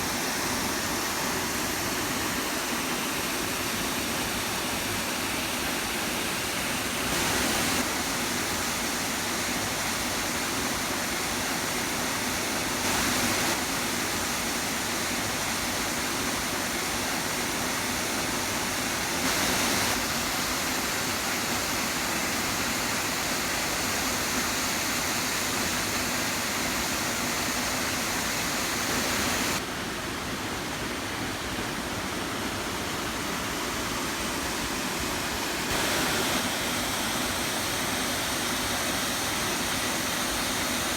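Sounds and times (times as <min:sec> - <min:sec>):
rush of falling water: 0:00.0 - 0:40.9.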